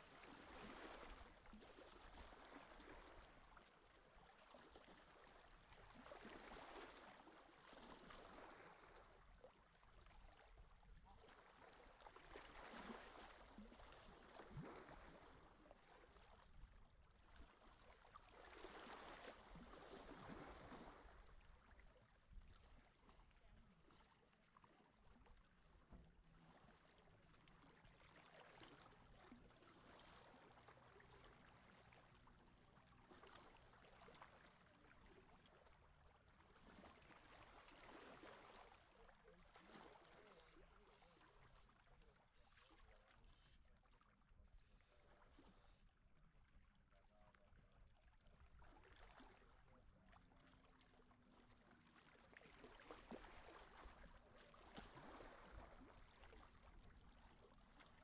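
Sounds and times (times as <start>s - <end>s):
small waves lapping at shore: 0.0s - 58.0s.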